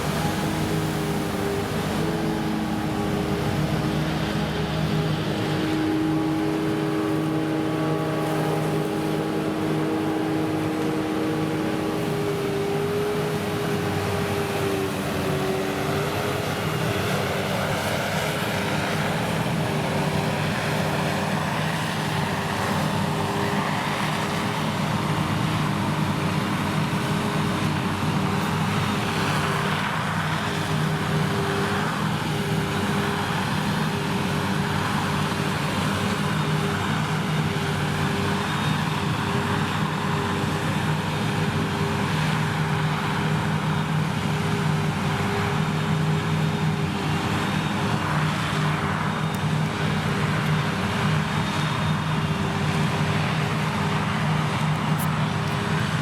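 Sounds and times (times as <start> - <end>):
harvester engine drone: 0.0 - 56.0.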